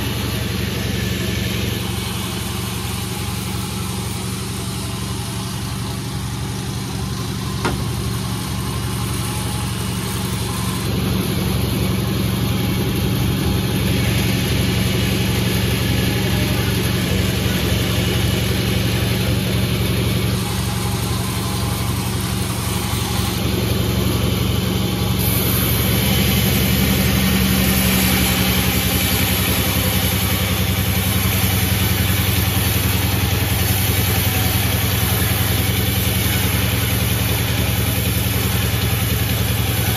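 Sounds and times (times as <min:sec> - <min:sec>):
saw hissing through log: 0:00.0 - 0:39.9
sawmill engine hum: 0:00.0 - 0:39.9.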